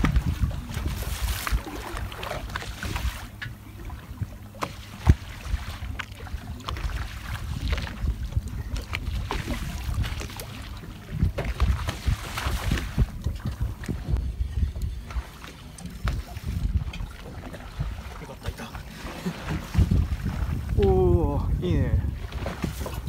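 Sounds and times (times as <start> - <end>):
low steady hum: 0.0 - 23.0
water slapping boat hull: 0.0 - 23.0
wind buffeting microphone: 0.0 - 23.0.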